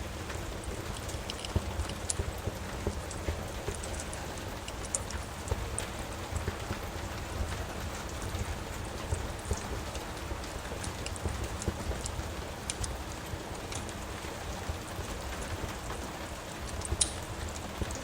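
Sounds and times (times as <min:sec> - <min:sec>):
rain hissing and pattering: 0:00.0 - 0:18.0
wood fire crackling: 0:00.0 - 0:18.0.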